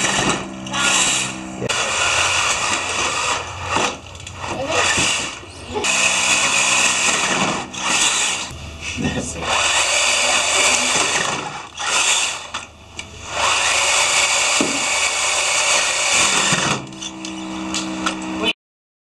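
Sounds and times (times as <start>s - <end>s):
electric motors whirring: 0.0s - 18.5s.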